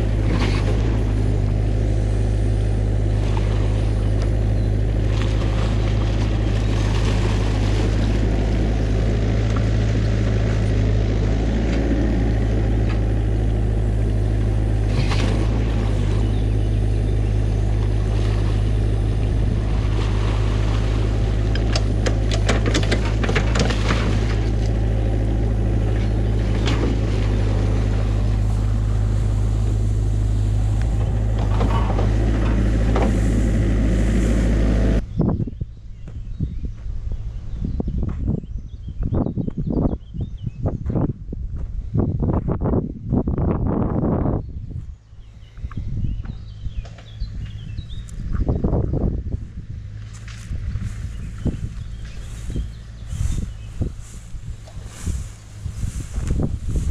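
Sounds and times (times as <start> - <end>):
excavator diesel engine running: 0.0 - 35.1, 46.2 - 56.9.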